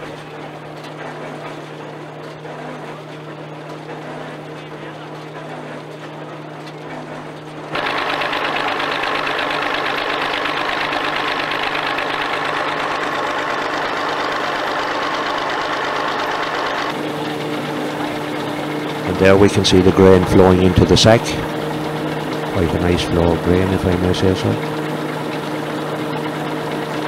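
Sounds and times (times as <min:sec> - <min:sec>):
steady machine hum: 0:00.0 - 0:27.0
threshing mill rattling: 0:00.0 - 0:27.0.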